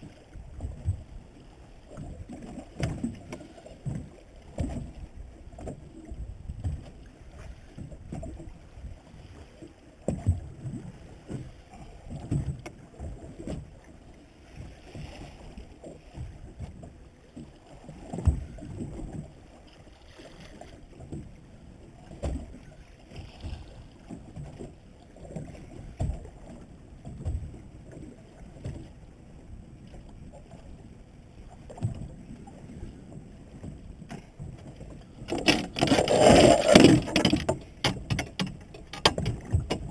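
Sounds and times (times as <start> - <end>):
water slapping against boat hull: 1.9 - 8.6, 9.4 - 28.9, 33.0 - 39.9.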